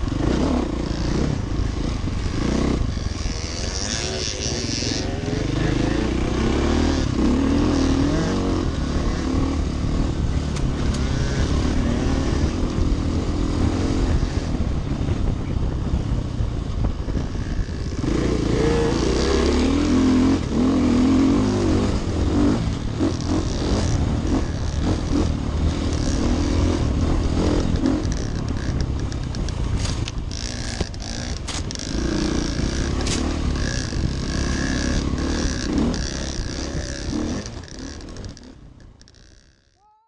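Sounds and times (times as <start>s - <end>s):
dirt bike engine revving: 0.0s - 16.0s, 16.8s - 39.7s.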